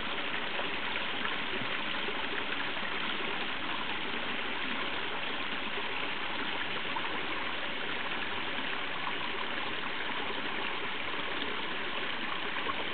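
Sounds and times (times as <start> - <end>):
stream running over rocks: 0.0 - 12.9.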